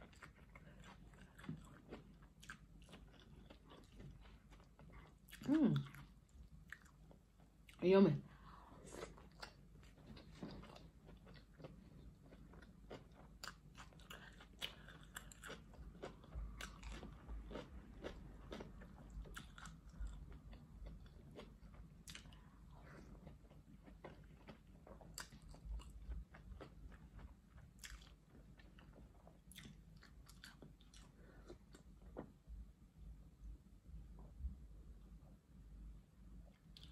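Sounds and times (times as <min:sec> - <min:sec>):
close chewing mouth sounds: 0:00.0 - 0:07.8, 0:08.4 - 0:32.3.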